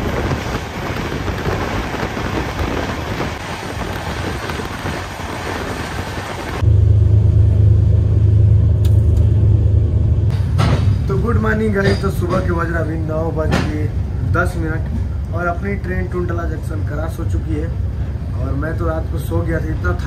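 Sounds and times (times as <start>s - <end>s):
steady rushing noise: 0.0s - 20.0s
train running noise inside coach: 0.0s - 20.0s.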